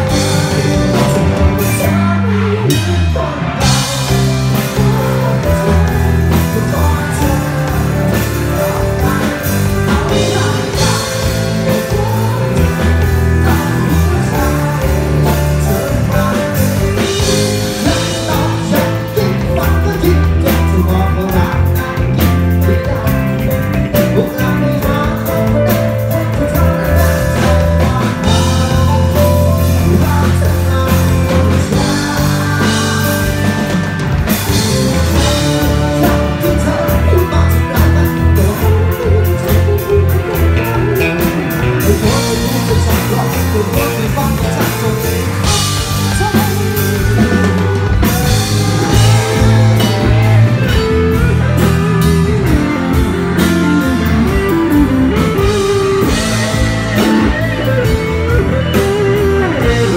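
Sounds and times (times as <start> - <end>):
guitars: 0.0 - 59.9
heavy bass notes: 0.0 - 59.9
man singing: 0.0 - 59.9
steady drum beat: 0.0 - 59.9.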